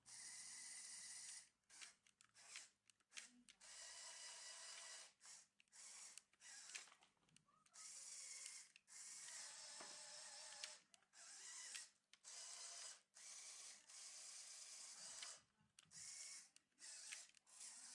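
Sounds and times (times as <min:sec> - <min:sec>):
small electric motors whirring: 0:00.0 - 0:17.9.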